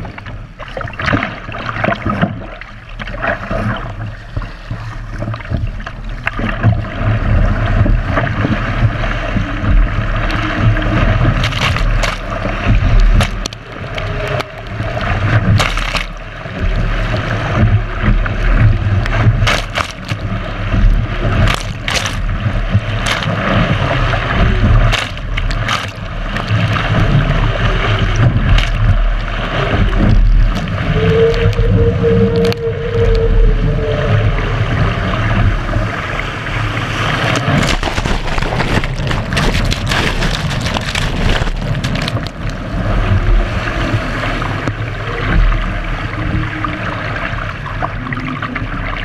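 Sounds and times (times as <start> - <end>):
water splashing against a boat bow: 0.0 - 49.0.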